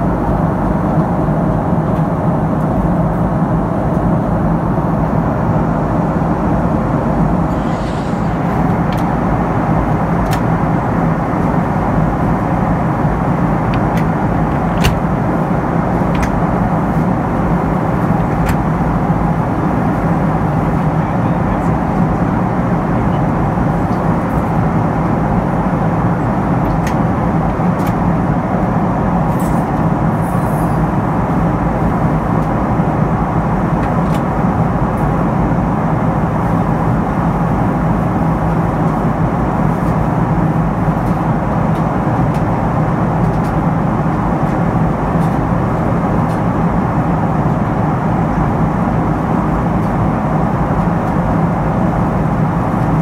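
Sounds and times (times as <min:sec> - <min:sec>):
jet engines humming: 0:00.0 - 0:53.0
rush of airflow: 0:00.0 - 0:53.0.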